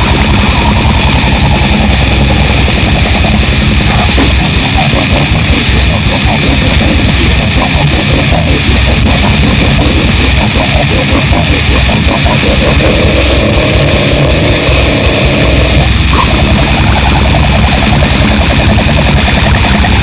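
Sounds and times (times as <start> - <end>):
distorted heavy metal music: 0.0 - 20.0.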